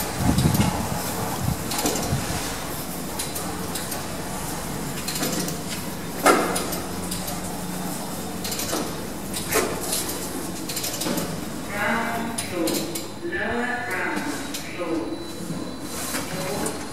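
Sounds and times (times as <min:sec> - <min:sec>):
lift machinery hum: 0:00.0 - 0:16.9.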